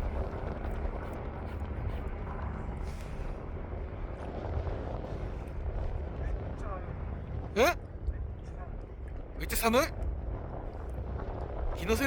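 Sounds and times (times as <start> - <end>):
gale wind buffeting microphone: 0.0 - 12.0.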